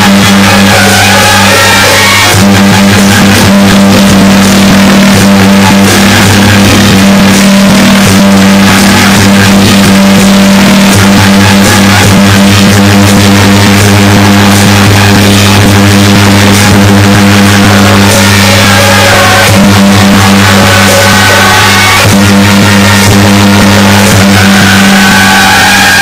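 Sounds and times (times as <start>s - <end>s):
distorted procession music: 0.0s - 26.0s.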